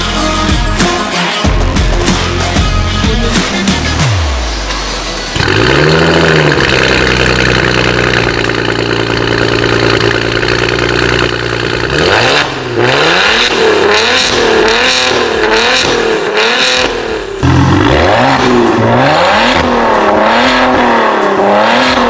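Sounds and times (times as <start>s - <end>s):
car engine revving and idling: 3.8s - 22.0s
engine throttle blips: 4.0s - 22.0s.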